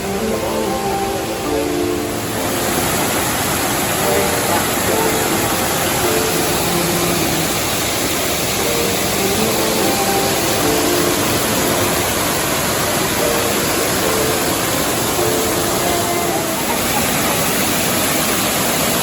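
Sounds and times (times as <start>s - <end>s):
faint melody of held notes: 0.0s - 19.0s
fast-flowing river rushing: 0.0s - 19.0s.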